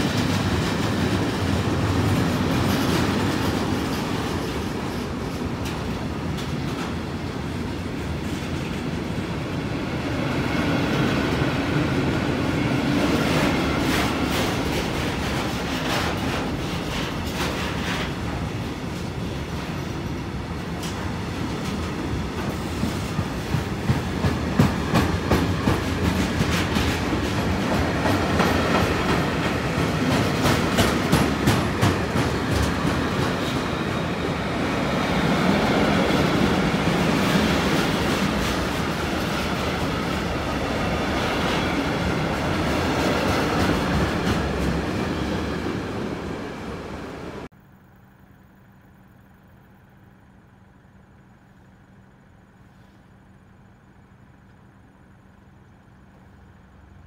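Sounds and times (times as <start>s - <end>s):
clickety-clack over rail joints: 0.0s - 46.8s
wheel on rail rumble: 0.0s - 57.0s.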